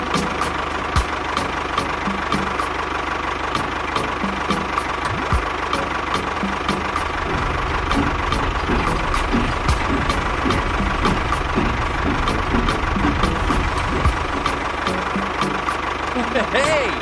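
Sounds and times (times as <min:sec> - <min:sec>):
engine idling: 0:00.0 - 0:17.0
regular engine ticking: 0:00.0 - 0:17.0.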